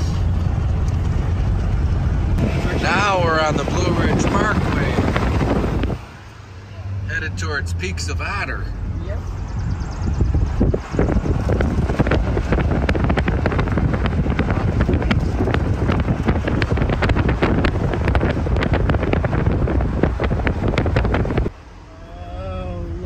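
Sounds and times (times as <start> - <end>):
wind buffeting microphone: 0.0 - 6.2, 7.8 - 21.5
low road rumble: 0.0 - 23.0.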